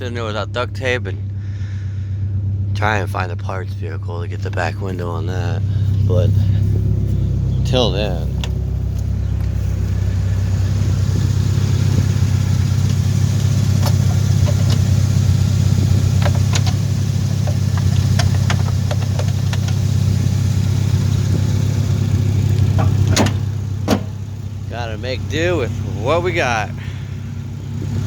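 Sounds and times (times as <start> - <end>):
van engine idling: 0.0 - 28.0.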